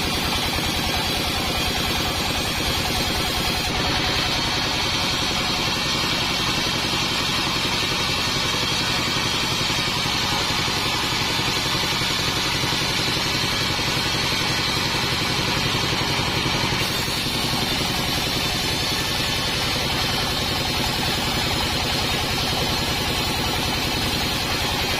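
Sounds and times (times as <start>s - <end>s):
band sawmill droning: 0.0s - 24.9s.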